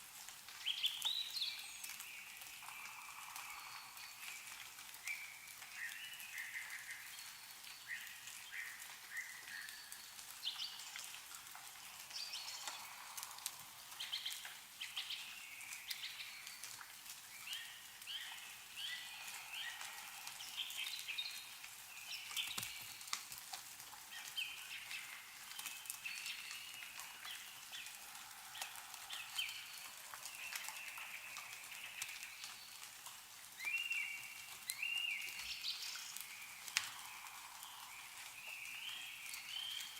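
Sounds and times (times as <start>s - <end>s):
meltwater dripping from trees: 0.0s - 39.9s
small birds chirping: 0.5s - 39.9s.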